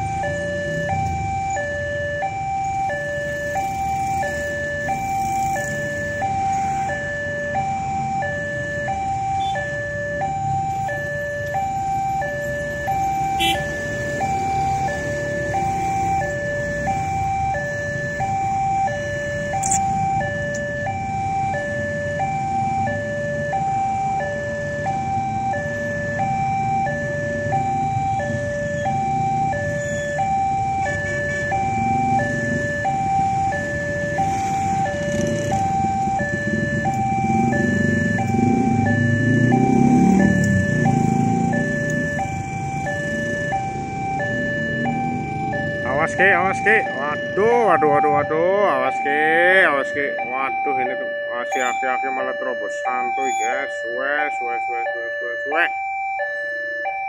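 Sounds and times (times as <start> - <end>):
two-tone level crossing alarm: 0.0 - 57.0.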